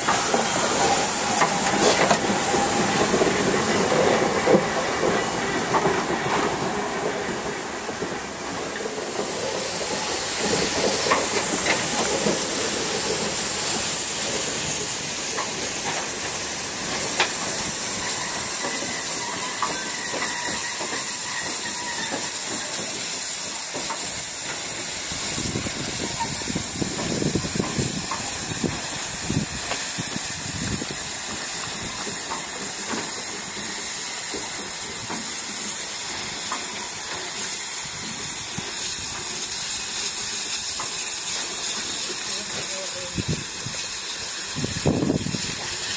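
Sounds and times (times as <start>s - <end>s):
steam locomotive hissing steam: 0.0s - 45.9s.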